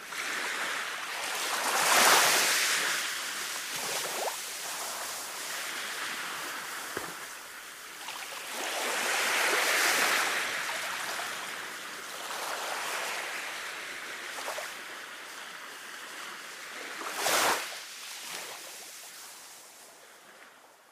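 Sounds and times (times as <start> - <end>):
sea waves washing onto beach: 0.0 - 20.6.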